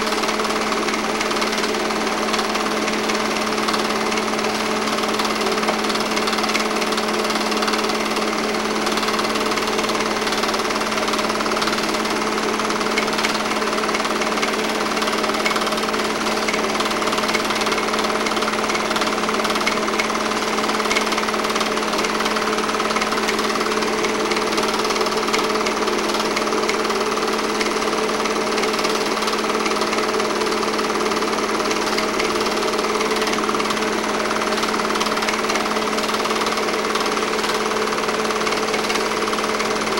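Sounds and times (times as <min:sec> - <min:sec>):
film projector mechanical clatter: 0:00.0 - 0:39.9
motor hum: 0:00.0 - 0:39.9.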